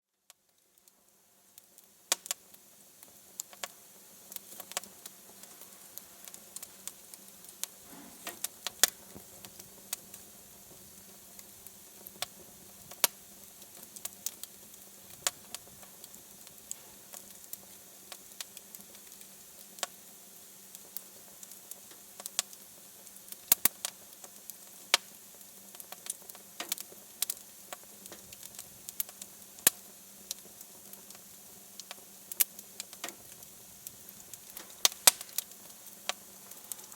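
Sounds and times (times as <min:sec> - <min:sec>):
low hiss: 0:00.1 - 0:36.9
fire crackling and popping: 0:00.3 - 0:36.9
faint steady hum: 0:00.6 - 0:36.9.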